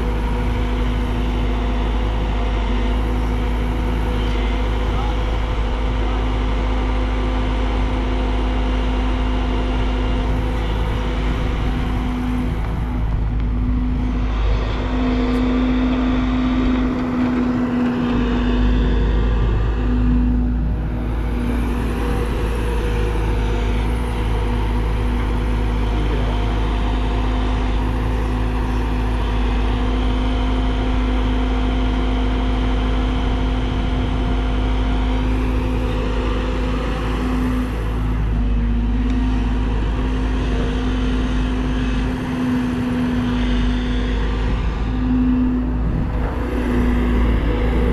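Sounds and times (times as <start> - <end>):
excavator diesel engine drone: 0.0 - 47.9.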